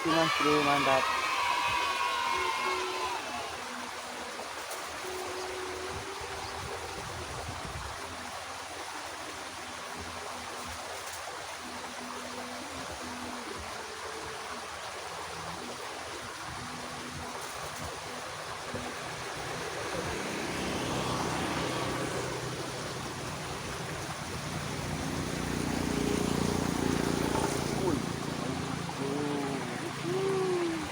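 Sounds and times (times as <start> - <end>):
water rushing along ditch: 0.0 - 30.9.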